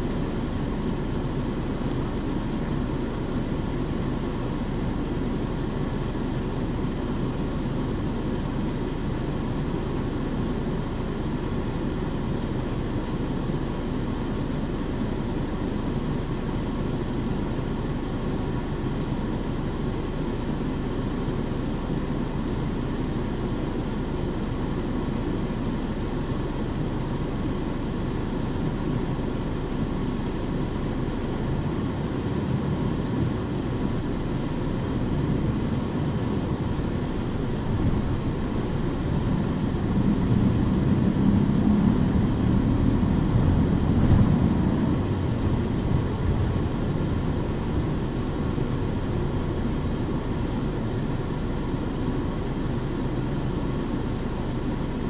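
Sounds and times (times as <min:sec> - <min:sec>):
bus diesel engine rumble: 0:00.0 - 0:55.0.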